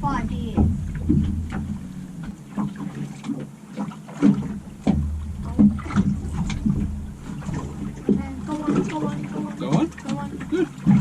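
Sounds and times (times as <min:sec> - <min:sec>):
low rumble: 0:00.0 - 0:02.9, 0:04.4 - 0:11.0
knocks and clatter on boat: 0:00.0 - 0:11.0.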